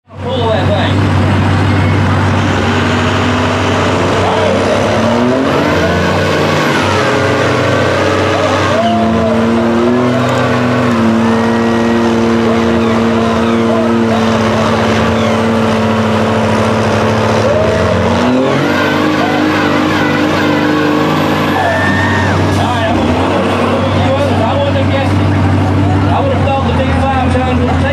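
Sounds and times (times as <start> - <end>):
heavy diesel engines under load: 0.0 - 27.9.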